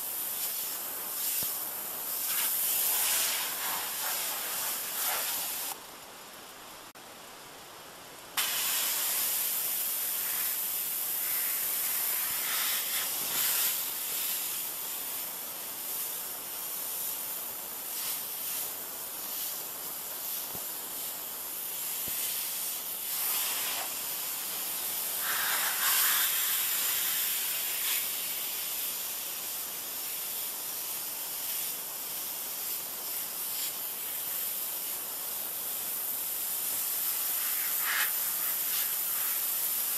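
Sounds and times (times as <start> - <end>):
pressure washer spraying plastic: 0.0 - 5.8, 8.4 - 39.9.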